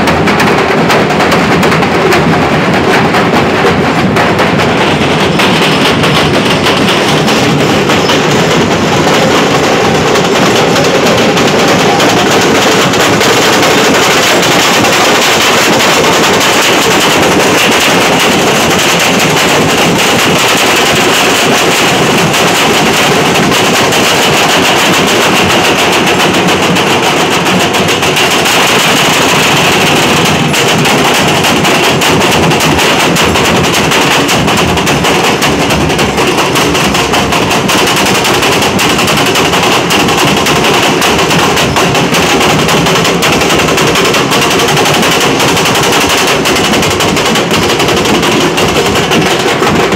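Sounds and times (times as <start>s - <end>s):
barrel drums in fast roll: 0.0s - 49.9s.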